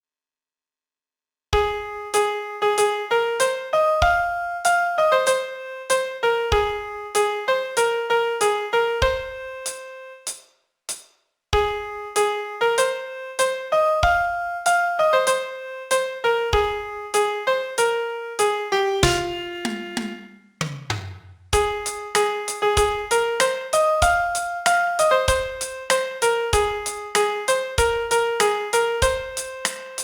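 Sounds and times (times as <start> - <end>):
piano melody: 1.6 - 10.3, 11.6 - 20.3, 21.6 - 30.0.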